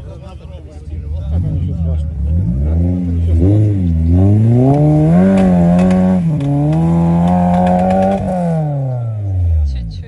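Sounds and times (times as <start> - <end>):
car engine revving hard: 1.2 - 10.0.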